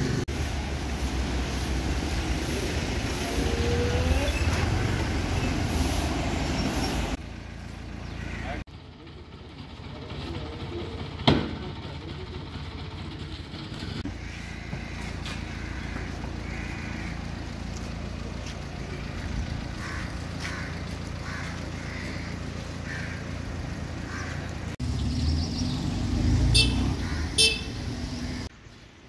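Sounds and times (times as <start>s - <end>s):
vehicle engines rumbling: 0.0s - 29.0s.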